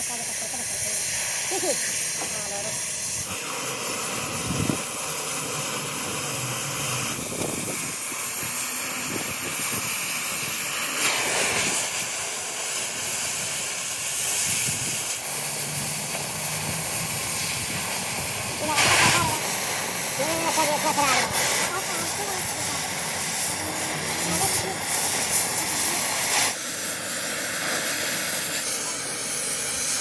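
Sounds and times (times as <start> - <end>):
steady hissing noise: 0.0 - 30.0.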